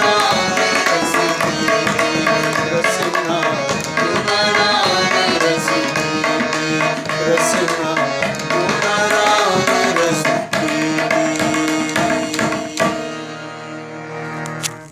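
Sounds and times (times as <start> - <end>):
woman singing devotional song: 0.0 - 13.4
tabla: 0.0 - 13.5.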